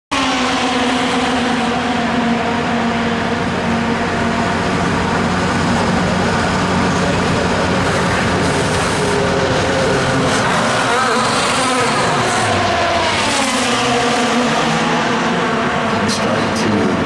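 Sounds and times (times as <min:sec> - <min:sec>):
racing car engines droning whine: 0:00.1 - 0:17.0.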